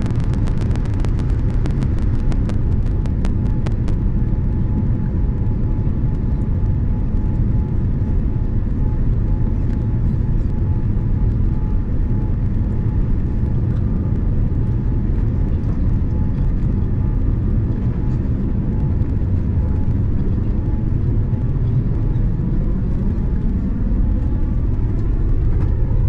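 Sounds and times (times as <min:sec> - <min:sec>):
low rumble of engines and airflow: 0:00.0 - 0:26.0.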